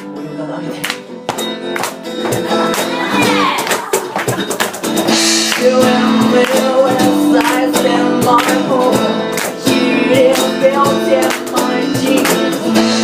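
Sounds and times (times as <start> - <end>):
guitar strumming: 0.0 - 13.0
live band playing: 0.8 - 13.0.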